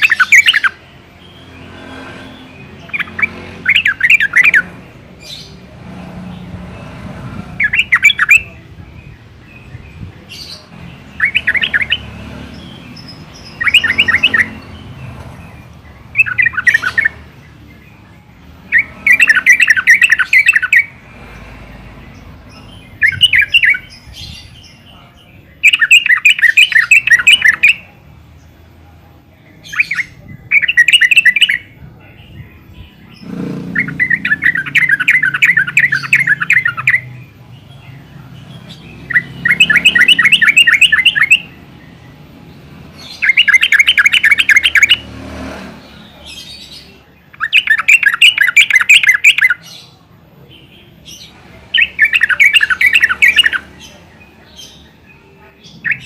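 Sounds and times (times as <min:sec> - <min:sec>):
bird singing fast repeated notes: 0:00.0 - 0:28.6, 0:29.5 - 0:56.0.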